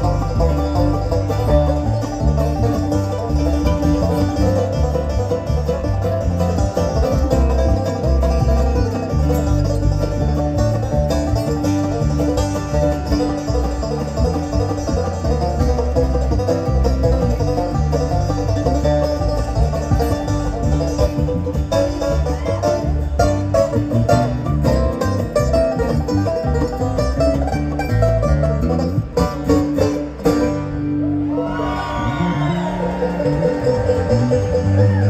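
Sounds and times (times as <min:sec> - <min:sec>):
banjo picking: 0:00.0 - 0:35.0
bluegrass band playing live: 0:00.0 - 0:35.0
low bass line: 0:00.0 - 0:35.0.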